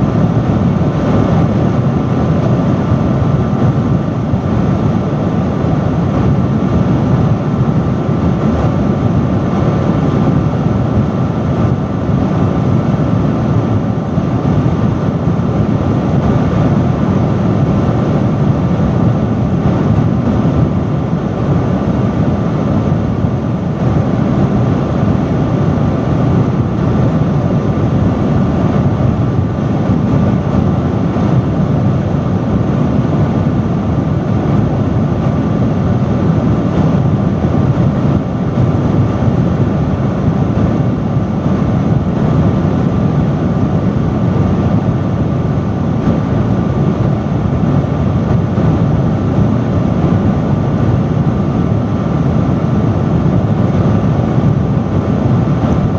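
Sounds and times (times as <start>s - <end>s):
faint steady hum: 0.0s - 55.9s
industrial fan airflow: 0.0s - 55.9s.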